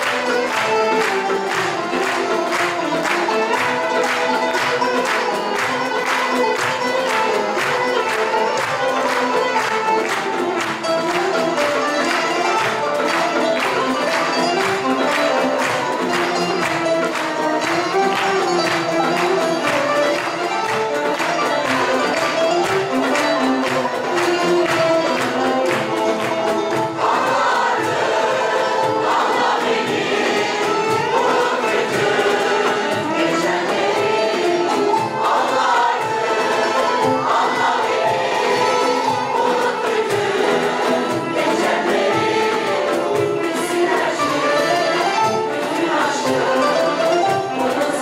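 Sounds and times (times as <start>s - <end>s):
accordion: 0.0s - 48.0s
choir singing: 0.0s - 48.0s
frame drum beat: 0.0s - 48.0s
people clapping along: 0.0s - 48.0s
violin: 0.0s - 48.0s.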